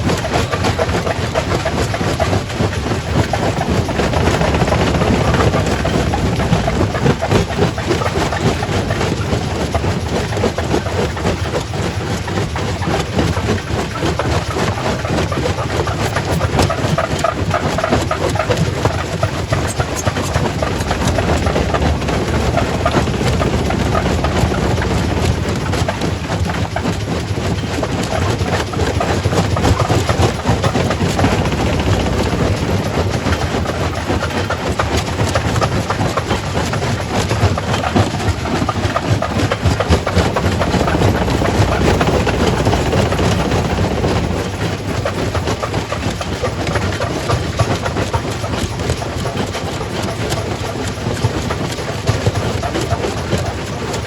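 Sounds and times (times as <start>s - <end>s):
rock crusher machine noise: 0.0s - 54.0s.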